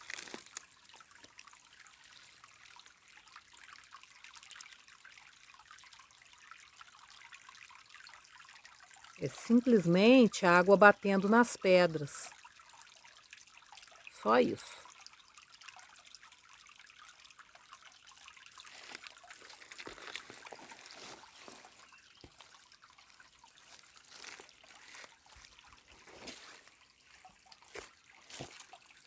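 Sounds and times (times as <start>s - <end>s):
stream trickling over stones: 0.0s - 29.0s.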